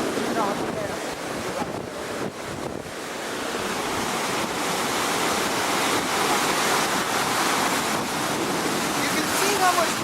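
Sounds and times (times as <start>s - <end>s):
surf rushing onto beach: 0.0s - 10.0s
wind buffeting microphone: 0.0s - 10.0s.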